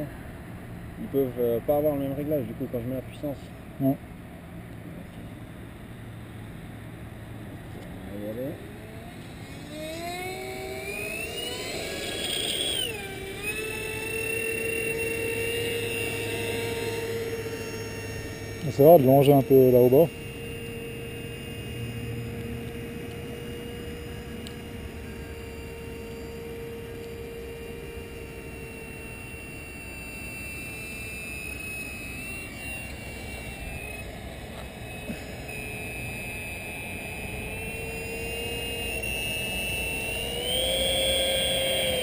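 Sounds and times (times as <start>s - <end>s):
model motors and propellers whining: 0.0s - 42.0s.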